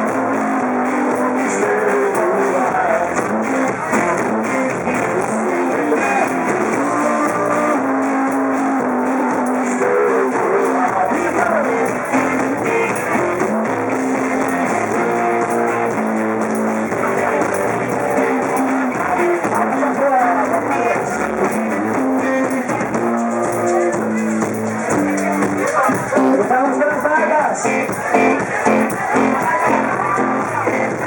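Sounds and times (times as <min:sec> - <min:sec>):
live rock band playing: 0:00.0 - 0:31.0
strummed guitars: 0:00.0 - 0:31.0.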